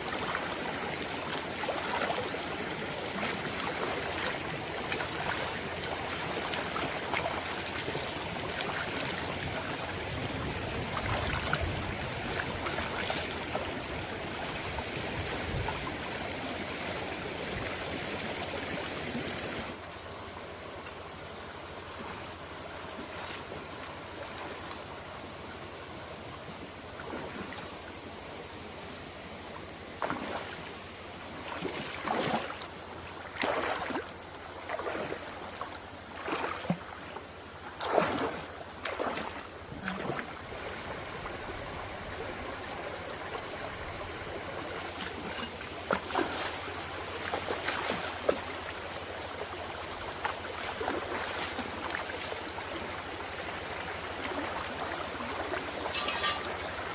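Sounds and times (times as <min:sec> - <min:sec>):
stream water running: 0:00.0 - 0:56.9.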